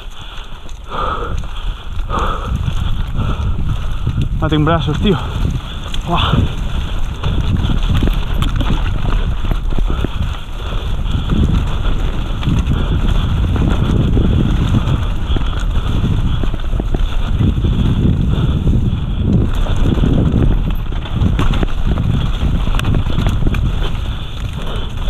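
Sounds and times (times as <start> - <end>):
bike clicking and rattling: 0.0 - 25.0
bike tyres on dirt: 0.0 - 25.0
wind noise: 0.0 - 25.0.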